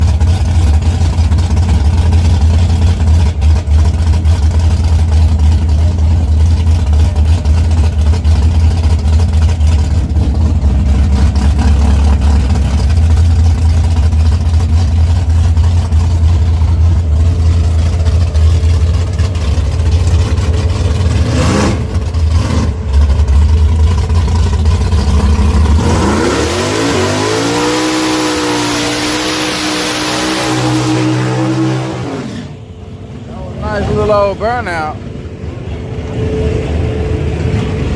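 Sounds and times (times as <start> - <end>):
drag car engine rumbling and revving: 0.0 - 37.9.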